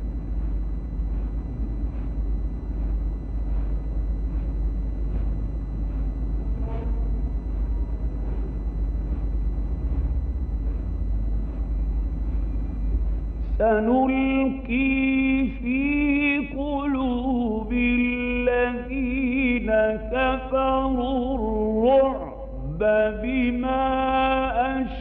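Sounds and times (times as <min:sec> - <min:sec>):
low hum and rumble: 0:00.0 - 0:25.0.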